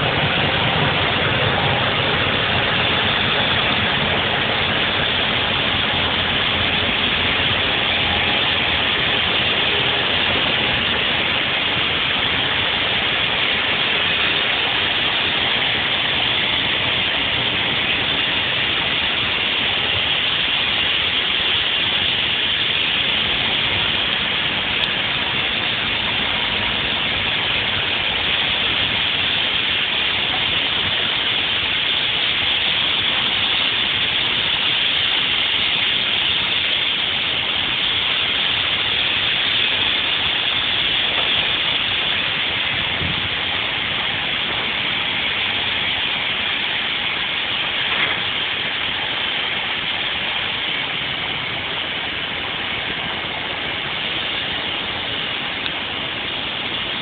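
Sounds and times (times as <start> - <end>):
diesel locomotive engine running: 0.0 - 57.0
steady rushing hiss: 0.0 - 57.0.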